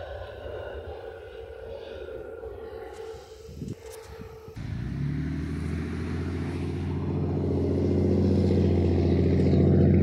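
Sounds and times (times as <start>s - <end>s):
aircraft engines humming: 0.0s - 10.0s.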